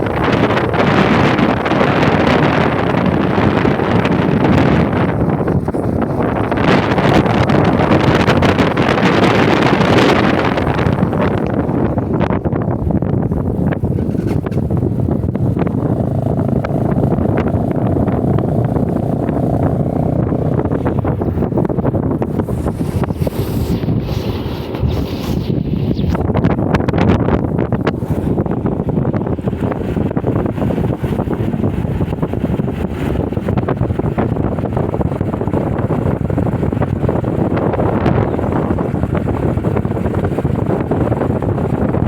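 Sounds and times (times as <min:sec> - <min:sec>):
motorcycle engine running: 0:00.0 - 0:42.0
vehicle rumble: 0:00.0 - 0:42.0
wind buffeting microphone: 0:00.0 - 0:42.0.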